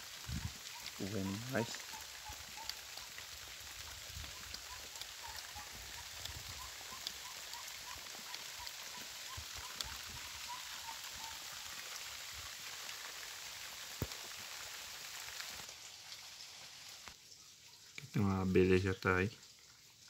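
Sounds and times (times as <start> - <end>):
drips from a roof edge: 0.0 - 20.0
steady rain: 0.0 - 20.0.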